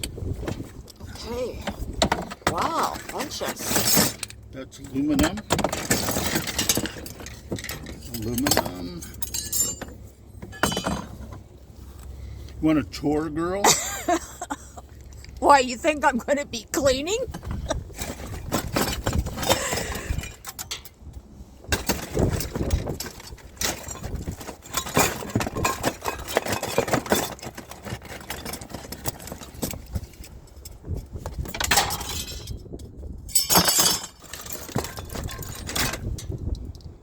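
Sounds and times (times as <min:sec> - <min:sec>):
scrap metal clinking and clattering: 0:00.0 - 0:12.6, 0:16.8 - 0:36.9.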